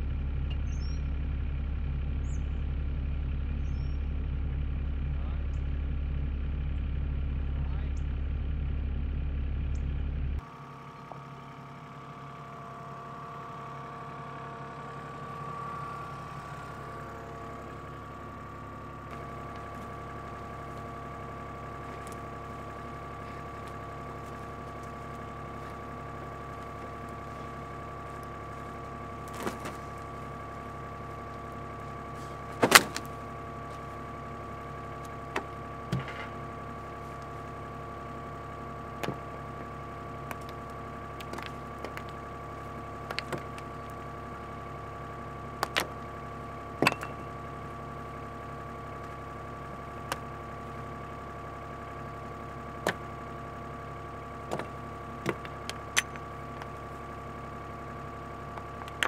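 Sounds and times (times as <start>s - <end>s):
excavator engine whining: 0.0s - 59.0s.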